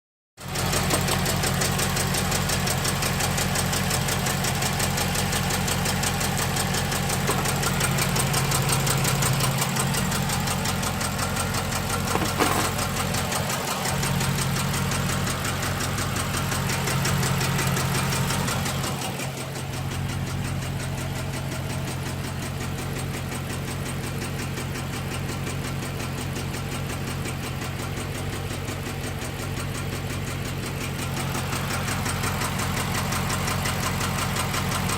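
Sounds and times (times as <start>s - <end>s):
car engine running rough: 0.4s - 34.9s
engine ticking: 0.4s - 34.9s.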